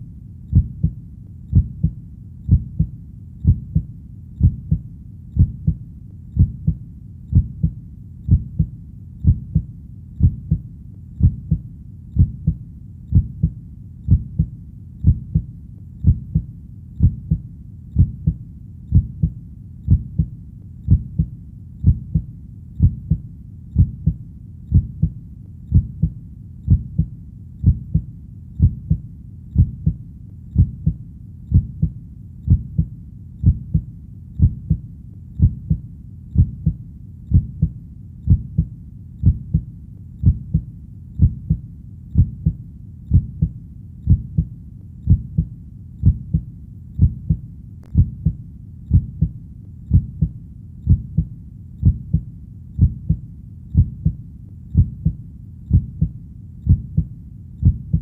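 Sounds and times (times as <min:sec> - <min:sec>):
heartbeat double thumps: 0:00.5 - 0:05.8, 0:06.4 - 0:29.0, 0:29.6 - 0:58.0.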